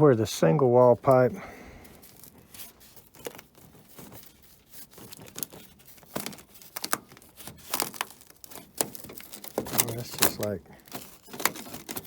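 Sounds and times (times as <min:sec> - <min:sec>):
crackling and crinkling clicks: 0:01.8 - 0:12.0.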